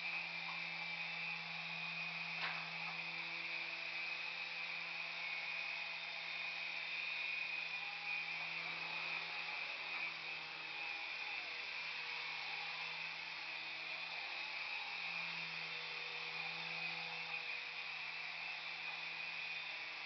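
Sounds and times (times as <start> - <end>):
toy helicopter motor whine: 0.0 - 20.0.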